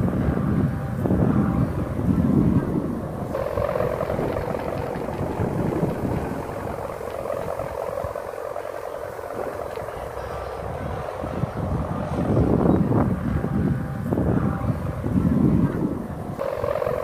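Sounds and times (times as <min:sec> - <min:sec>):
kite hummer droning: 0:00.0 - 0:17.0
wind rumbling on microphone: 0:00.0 - 0:17.0.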